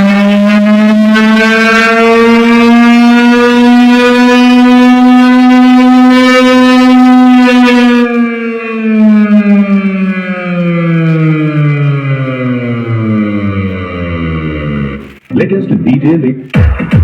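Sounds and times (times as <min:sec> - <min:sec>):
long held electronic note: 0:00.0 - 0:15.2.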